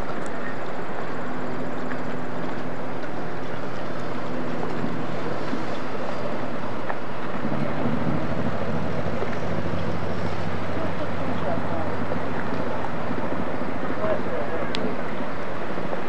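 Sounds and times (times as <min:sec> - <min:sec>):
ship machinery hum: 0:00.0 - 0:16.0
wind rushing on microphone: 0:00.0 - 0:16.0.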